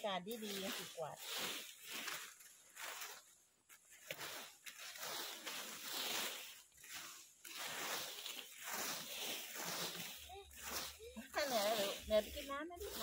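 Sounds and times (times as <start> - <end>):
rakes scraping dry leaves: 0.0 - 13.0.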